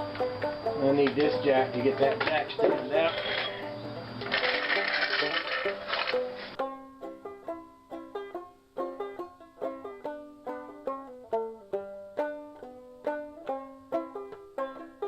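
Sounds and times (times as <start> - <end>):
banjo music: 0.0 - 15.0.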